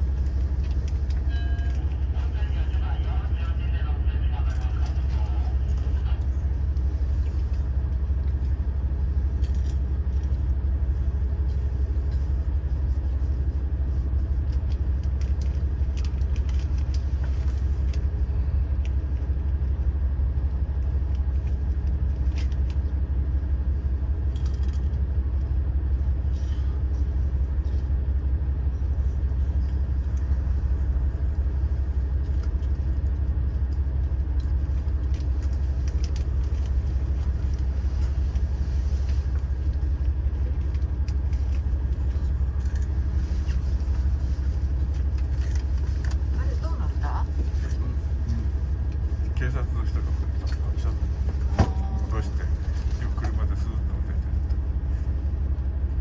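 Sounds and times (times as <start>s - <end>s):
train cabin low rumble: 0.0s - 56.0s.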